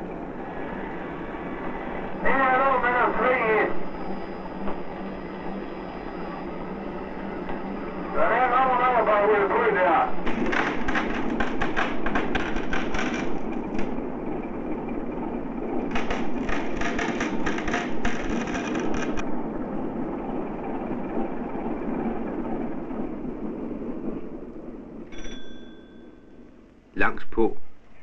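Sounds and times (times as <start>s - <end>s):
steady rushing rumble: 0.0s - 25.1s.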